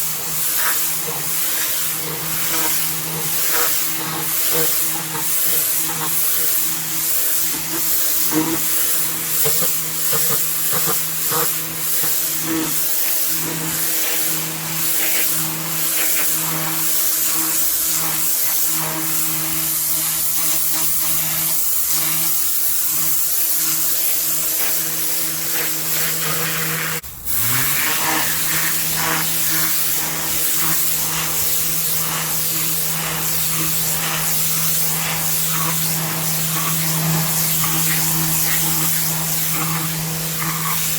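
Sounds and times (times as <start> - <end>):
pressure washer motor humming: 0.0 - 40.9
water jet hissing on paving: 0.0 - 40.9.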